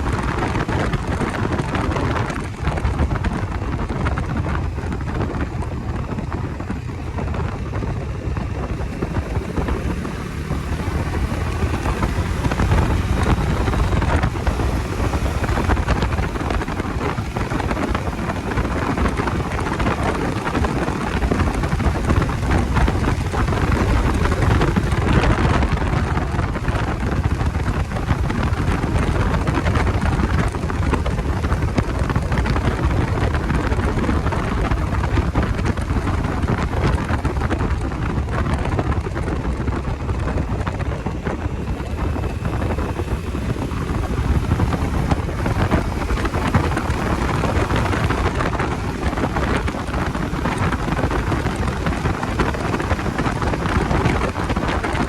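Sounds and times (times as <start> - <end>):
motorcycle engine: 0.0 - 55.0
road noise: 0.0 - 55.0
wind rushing over microphone: 0.0 - 55.0.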